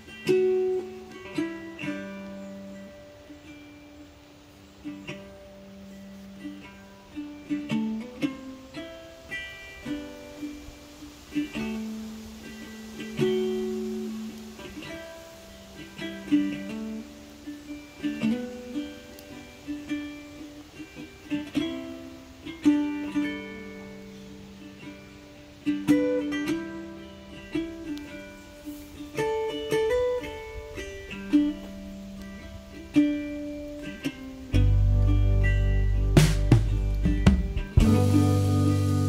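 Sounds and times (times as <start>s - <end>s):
plucked string melody: 0.0s - 39.0s.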